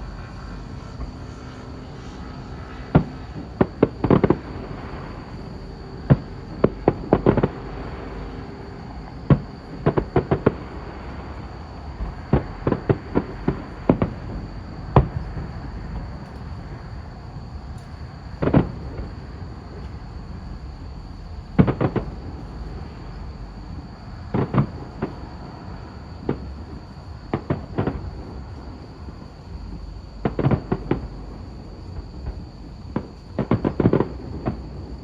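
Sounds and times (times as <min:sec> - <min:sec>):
fireworks bursting with sharp bangs: 0:00.0 - 0:16.9, 0:17.6 - 0:20.1, 0:21.5 - 0:35.0
low background rumble: 0:00.0 - 0:35.0.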